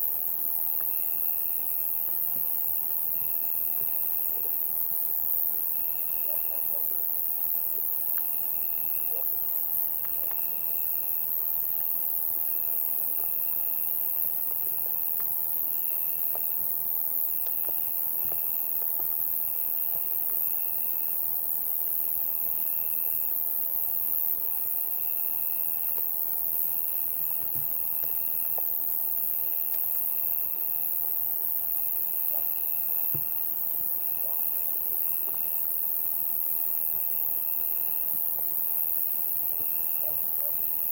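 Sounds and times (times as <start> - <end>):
cricket trilling: 0.0 - 40.9
insect chorus high hiss: 0.0 - 40.9.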